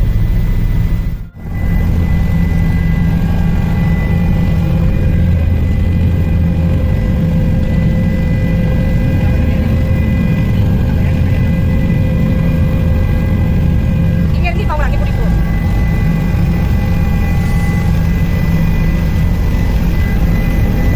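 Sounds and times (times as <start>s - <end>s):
helicopter drone: 0.0s - 20.9s
high whine: 0.0s - 20.9s.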